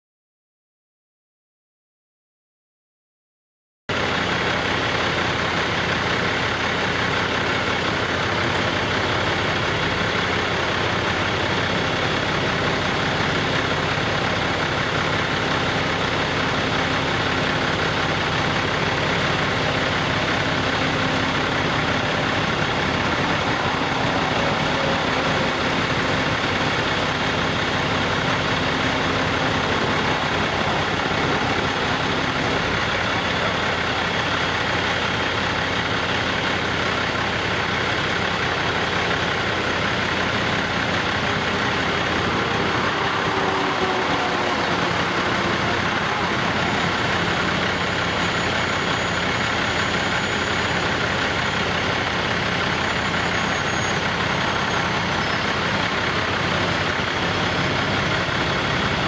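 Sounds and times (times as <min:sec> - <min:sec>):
diesel truck engines running: 0:03.9 - 0:59.0.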